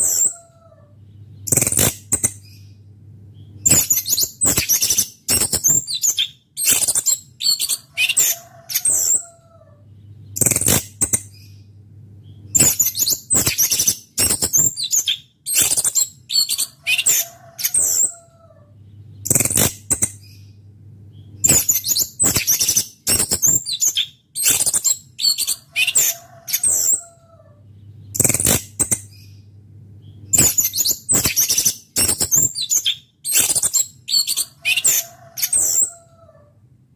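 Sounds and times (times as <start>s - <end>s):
songbird chirps and trills: 0.0s - 36.5s
faint low hum: 0.0s - 36.9s.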